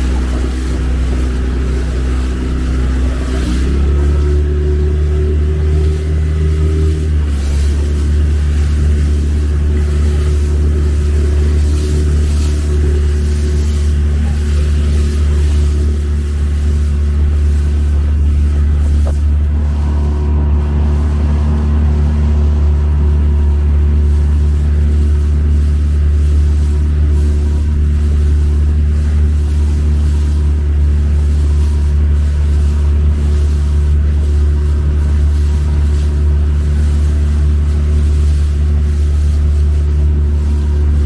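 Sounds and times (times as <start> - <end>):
motorboat engine droning: 0.0 - 41.0.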